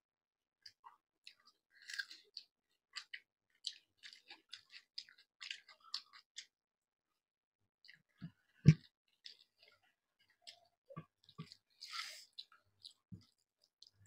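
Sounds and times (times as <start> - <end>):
faint chewing and mouth sounds: 0.6 - 7.2, 7.8 - 14.0.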